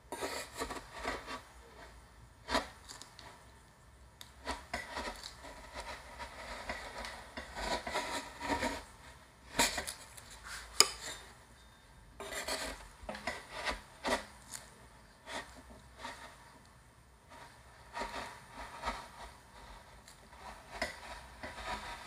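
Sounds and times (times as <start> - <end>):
metal spatula scraping ice cream: 0.1 - 3.5, 4.2 - 11.4, 12.2 - 16.6, 17.3 - 22.0.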